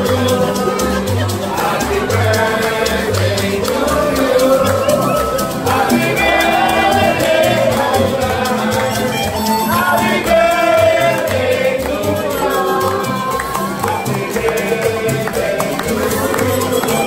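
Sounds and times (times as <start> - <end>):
acoustic band with singing: 0.0 - 17.0
hands clapping: 0.0 - 17.0.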